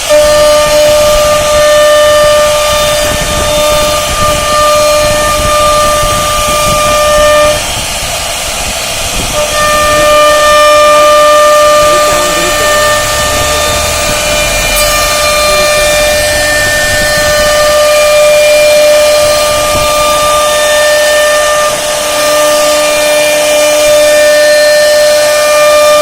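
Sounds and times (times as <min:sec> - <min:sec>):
router bit cutting wood: 0:00.0 - 0:26.0
spindle whine: 0:00.0 - 0:26.0.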